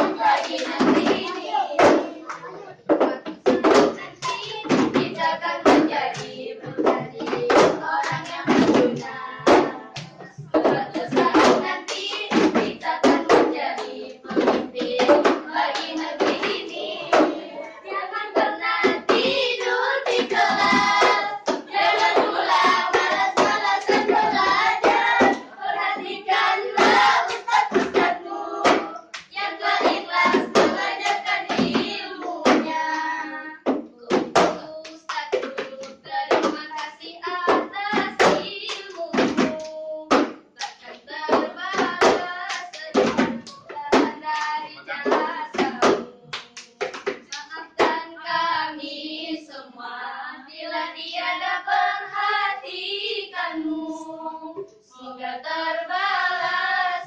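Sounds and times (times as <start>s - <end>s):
hand claps and slaps: 0.0s - 17.5s, 18.3s - 48.0s
girls singing in chorus: 0.0s - 57.0s.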